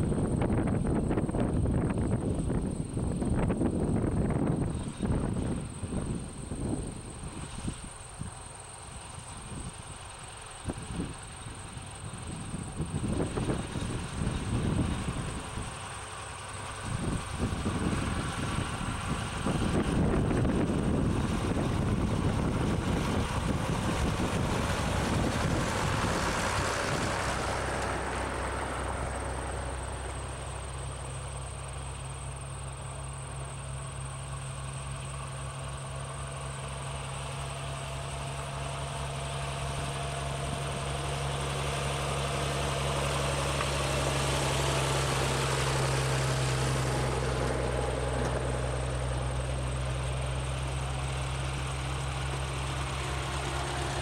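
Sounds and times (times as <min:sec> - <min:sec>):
tractor engines driving past: 0:00.0 - 0:54.0.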